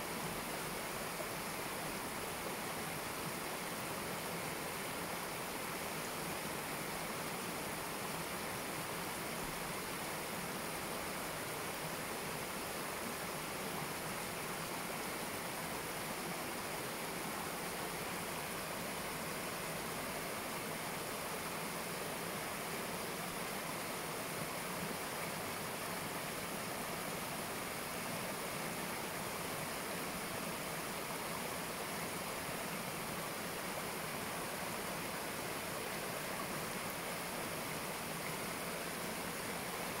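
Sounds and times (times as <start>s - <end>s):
stream water rushing over rocks: 0.0s - 40.0s.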